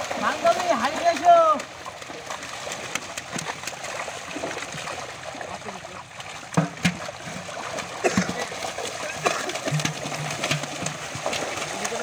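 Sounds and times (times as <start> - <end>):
fish splashing in water: 0.0 - 12.0
water trickling: 0.0 - 12.0.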